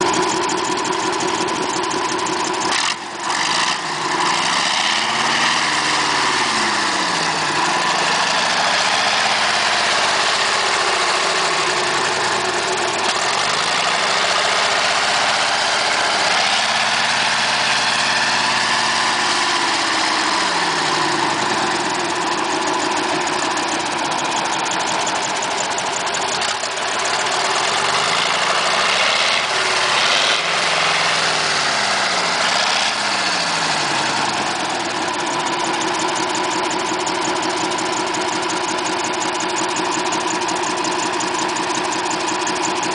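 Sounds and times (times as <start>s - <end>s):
diesel bus engine revving: 0.0s - 42.9s.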